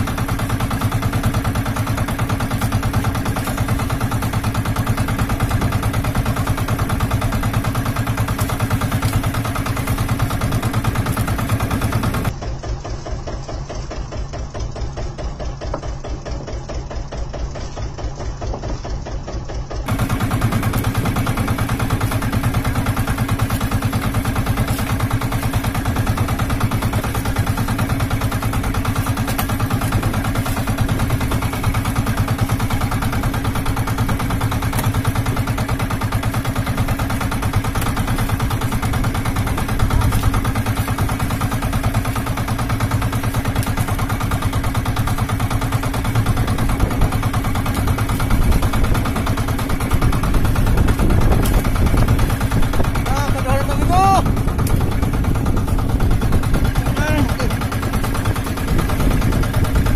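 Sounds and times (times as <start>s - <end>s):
boat engine pulsing: 0.0s - 59.9s.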